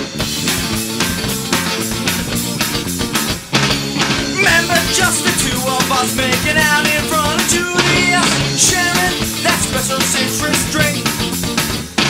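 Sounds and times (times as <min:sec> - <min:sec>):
pop-punk band playing: 0:00.0 - 0:12.0.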